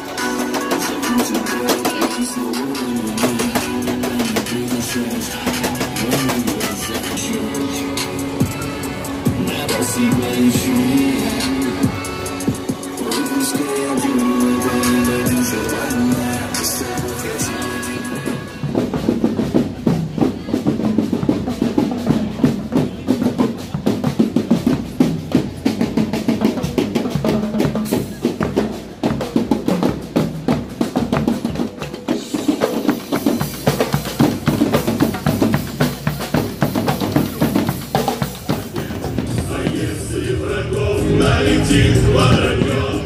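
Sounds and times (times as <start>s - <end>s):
drum kit playing fast rhythm: 0.0s - 40.0s.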